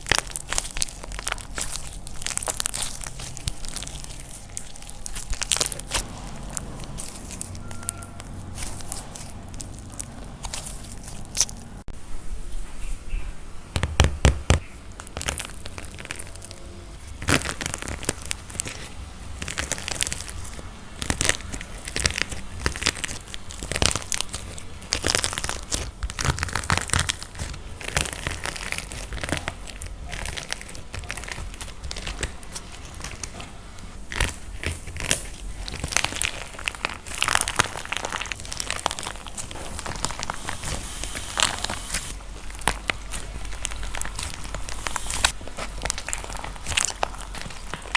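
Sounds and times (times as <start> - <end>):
dried clay cracking and crumbling: 0.0 - 47.9.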